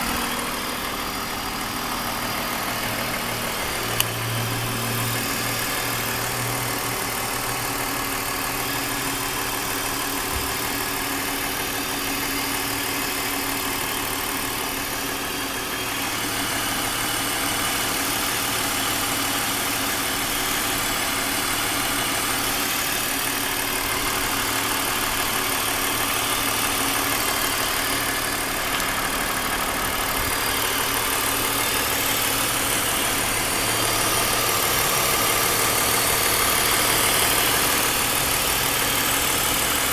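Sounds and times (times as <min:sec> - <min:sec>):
abnormal engine noise: 0:00.0 - 0:39.9
car engine idling: 0:00.0 - 0:39.9.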